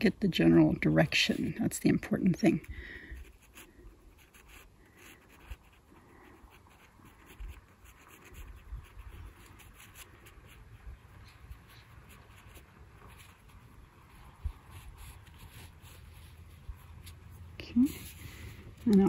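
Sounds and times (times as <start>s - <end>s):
pencil scratching on paper: 1.2s - 19.0s.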